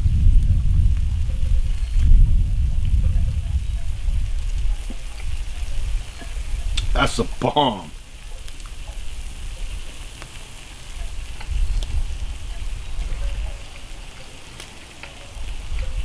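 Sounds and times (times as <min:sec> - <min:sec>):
food sizzling on a griddle: 0:00.0 - 0:16.0
wind buffeting microphone: 0:00.0 - 0:16.0.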